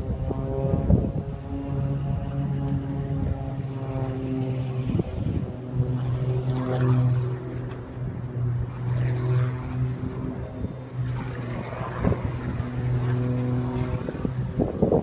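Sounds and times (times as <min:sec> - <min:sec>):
propeller plane droning: 0:00.0 - 0:15.0.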